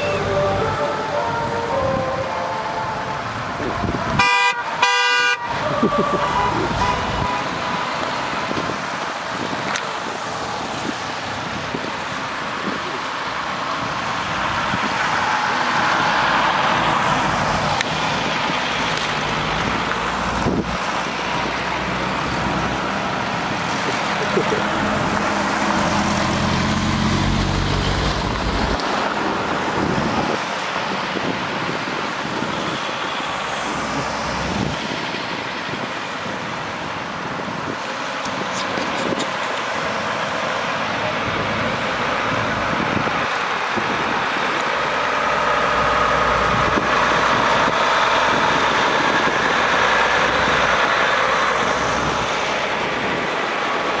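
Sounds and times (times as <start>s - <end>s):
cars passing on wet road: 0.0s - 54.0s.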